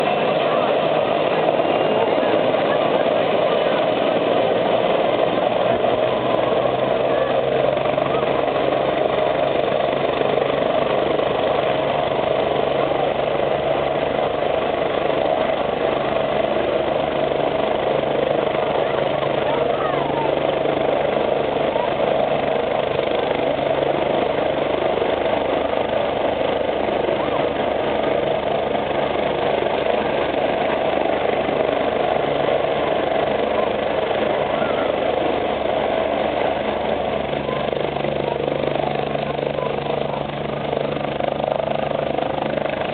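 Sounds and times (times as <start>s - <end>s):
helicopter running: 0.0s - 42.9s.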